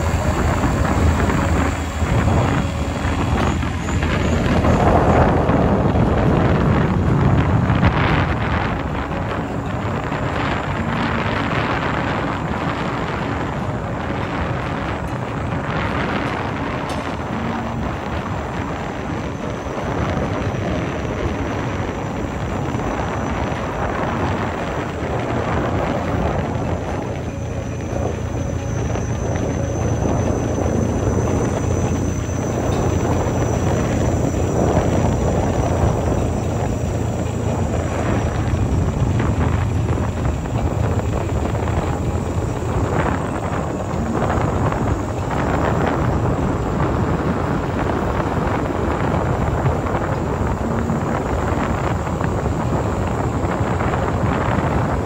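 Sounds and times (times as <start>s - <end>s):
vehicle driving on paved road: 0.0s - 55.0s
wind rush on microphone: 0.0s - 55.0s.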